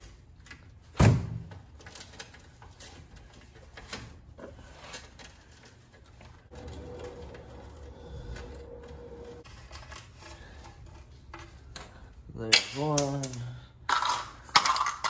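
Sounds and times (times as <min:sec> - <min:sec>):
steady hum with faint whine: 0:01.6 - 0:15.0.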